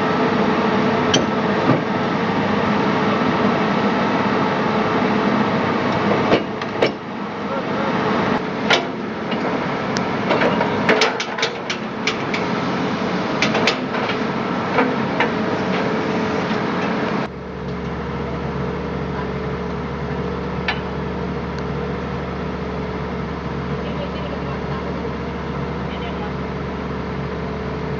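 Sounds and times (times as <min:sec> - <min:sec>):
excavator engine running: 0:00.0 - 0:27.9.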